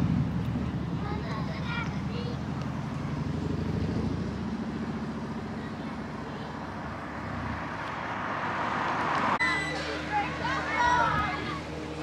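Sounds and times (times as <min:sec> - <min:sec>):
passing traffic road noise: 0:00.0 - 0:12.0
vehicle engine running: 0:00.0 - 0:12.0.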